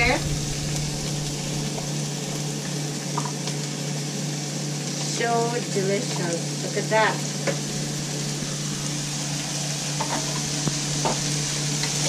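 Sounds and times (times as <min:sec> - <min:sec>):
meat and vegetables sizzling: 0:00.0 - 0:12.0.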